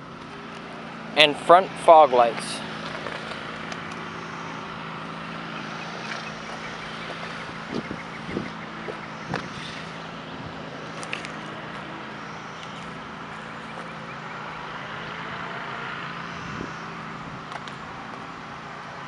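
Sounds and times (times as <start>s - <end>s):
low drone: 0.0s - 18.4s.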